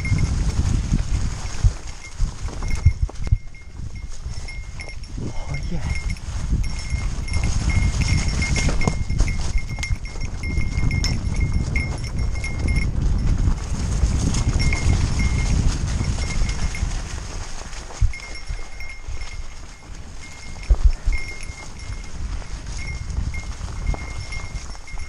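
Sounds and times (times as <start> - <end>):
small metal bell jingling: 0.0 - 0.6, 1.6 - 17.2, 18.0 - 25.0
bike tyres rumbling on trail: 0.0 - 25.0.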